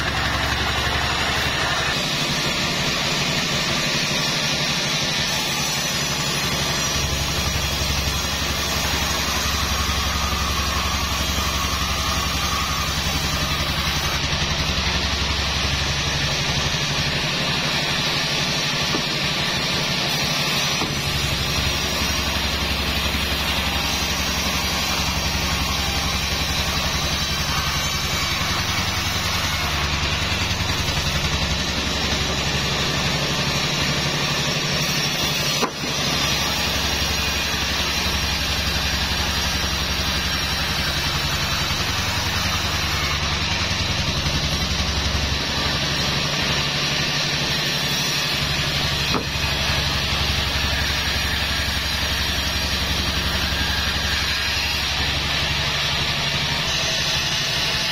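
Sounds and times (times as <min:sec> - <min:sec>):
band saw cutting log: 0:00.0 - 0:57.9.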